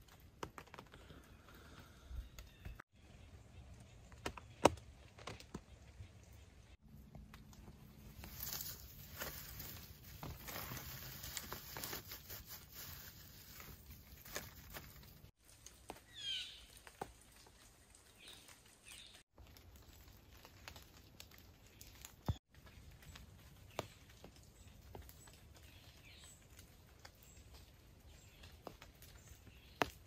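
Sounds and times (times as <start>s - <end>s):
dry bark crackling and rustling: 0.0s - 1.9s, 3.6s - 30.0s.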